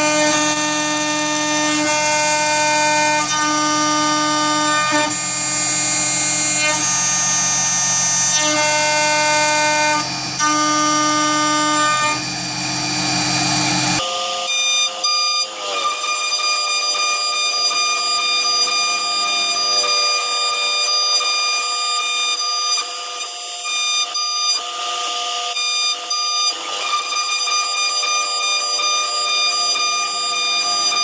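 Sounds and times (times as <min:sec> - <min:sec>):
end mill cutting metal: 0:00.0 - 0:31.0
router spindle whine: 0:00.0 - 0:31.0.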